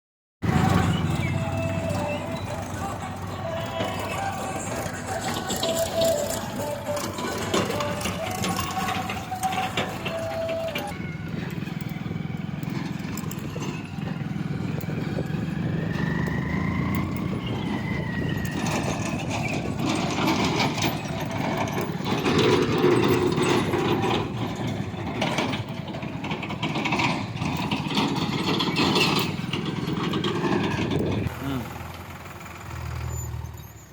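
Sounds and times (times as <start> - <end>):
diesel engine running: 0.4 - 33.9
engine whine: 0.4 - 33.9
irregular clattering: 0.8 - 11.0, 11.6 - 31.3.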